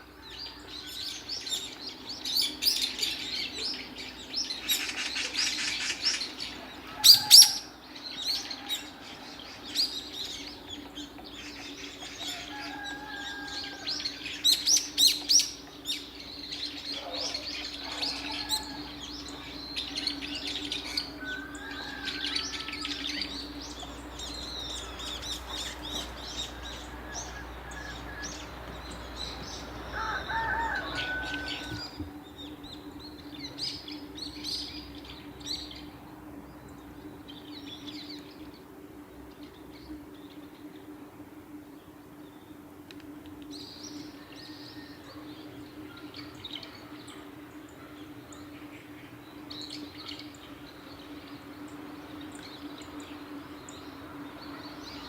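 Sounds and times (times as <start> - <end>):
faint steady hum: 0.0 - 55.0
small birds chirping: 0.0 - 55.0.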